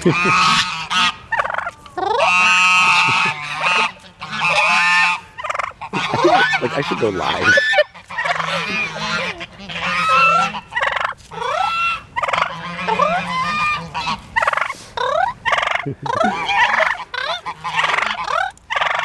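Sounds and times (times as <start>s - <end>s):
geese honking: 0.0s - 19.0s
turkey gobbling: 0.0s - 19.0s.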